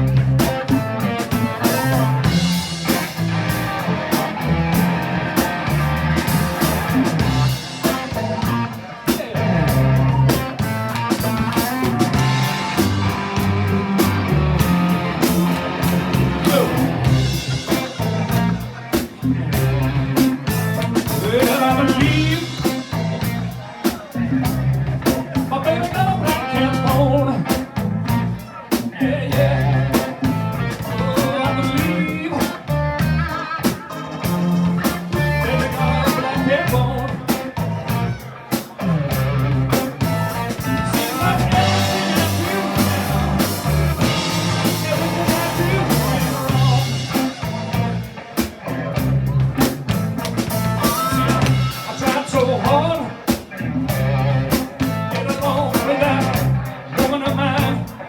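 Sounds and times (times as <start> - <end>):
bass: 0.0 - 58.0
drums: 0.0 - 58.0
electric guitar: 0.0 - 58.0
keyboards: 0.0 - 58.0.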